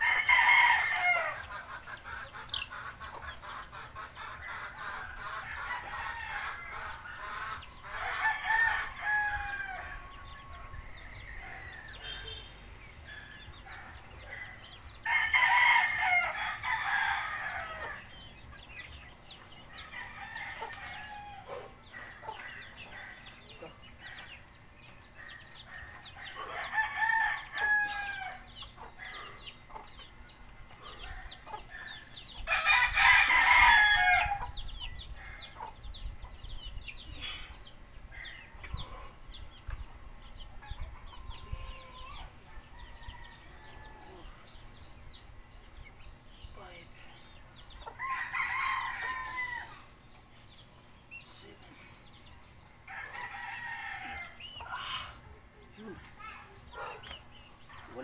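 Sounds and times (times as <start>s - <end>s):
roosters crowing: 0.0s - 35.8s, 40.2s - 46.1s, 46.7s - 58.0s.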